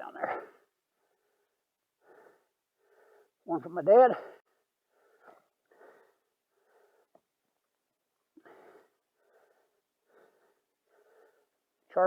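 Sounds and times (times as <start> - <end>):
soft breaths close to microphone: 0.4 - 3.4, 4.3 - 7.5, 8.3 - 11.9.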